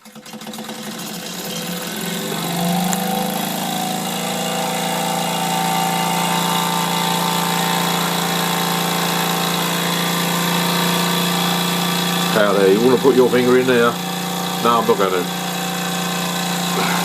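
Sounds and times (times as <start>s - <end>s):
model steam engine running: 0.0s - 17.0s.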